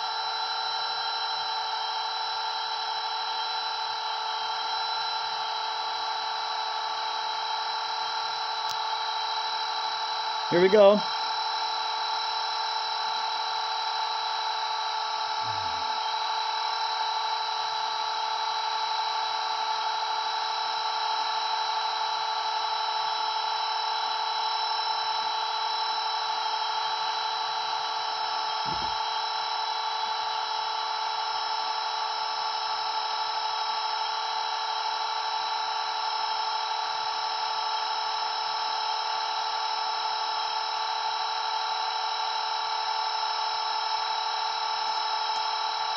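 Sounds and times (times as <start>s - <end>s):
rc helicopter rotor whine: 0.0s - 45.9s.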